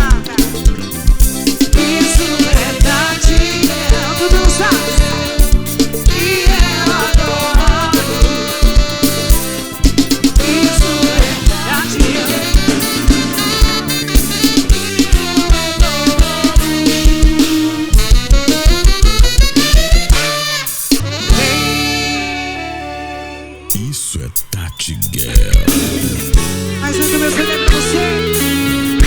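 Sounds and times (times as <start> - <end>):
brass instruments: 0.0 - 24.8, 25.4 - 29.0
live band instrumental music: 0.0 - 29.0.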